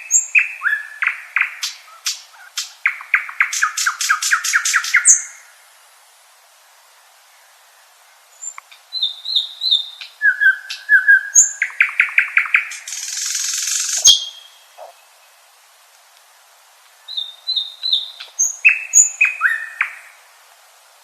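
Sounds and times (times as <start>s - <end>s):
nightingale singing: 0.0s - 5.6s, 6.7s - 15.4s, 16.3s - 20.3s.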